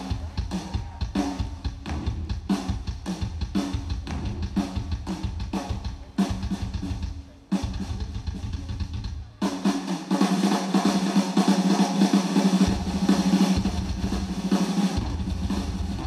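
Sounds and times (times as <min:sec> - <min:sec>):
rapid bass drum strokes: 0:00.0 - 0:16.0
snare drum: 0:00.0 - 0:16.0.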